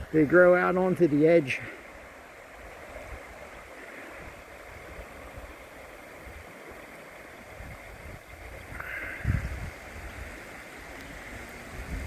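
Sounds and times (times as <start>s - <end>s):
creek water rushing over rapids: 0.0s - 12.0s.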